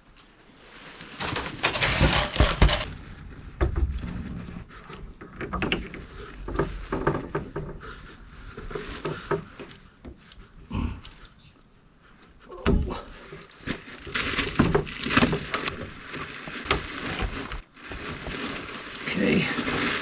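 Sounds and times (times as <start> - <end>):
plastic pipe rustling: 0.0 - 20.0.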